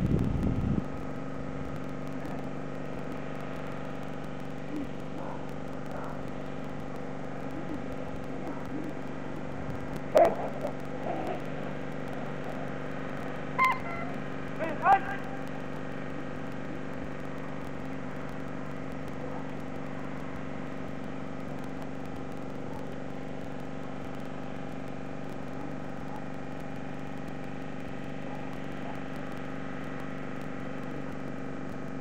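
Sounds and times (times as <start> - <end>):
steady mechanical drone: 0.0 - 32.0.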